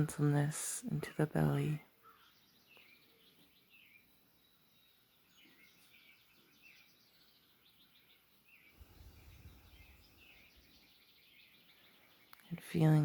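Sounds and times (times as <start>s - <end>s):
birds chirping and trilling: 0.0s - 13.0s.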